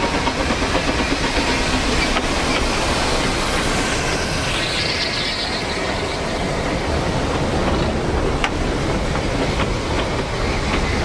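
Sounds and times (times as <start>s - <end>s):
railway carriages rumbling past: 0.0s - 11.0s.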